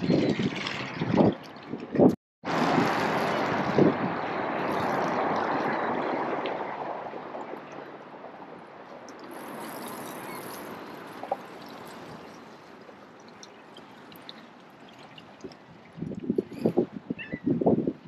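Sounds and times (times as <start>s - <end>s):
hose water splashing: 0.0s - 16.8s.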